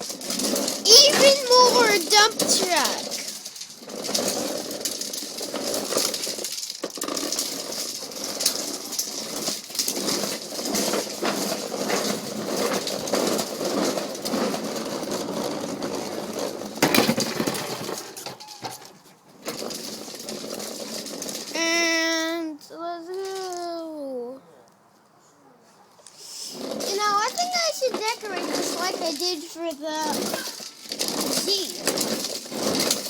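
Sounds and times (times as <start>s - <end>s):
plastic toy truck rattling: 0.0s - 24.2s, 26.4s - 33.0s.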